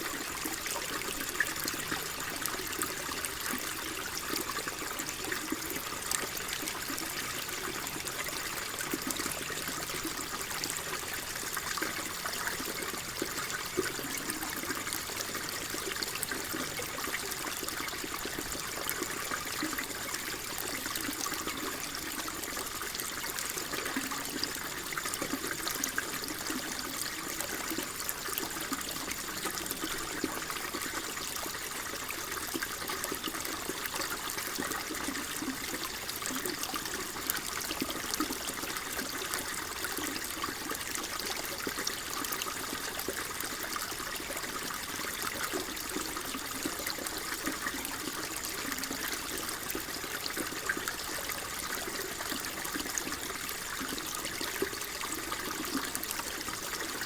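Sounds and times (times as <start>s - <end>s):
water flowing and trickling: 0.0s - 57.0s.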